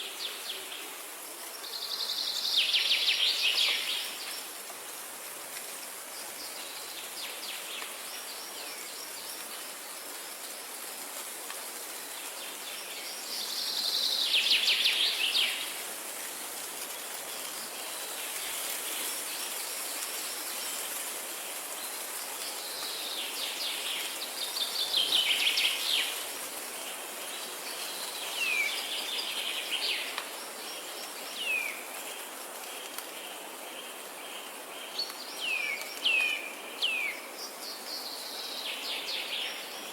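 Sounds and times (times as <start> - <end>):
high background hiss: 0.0 - 39.9.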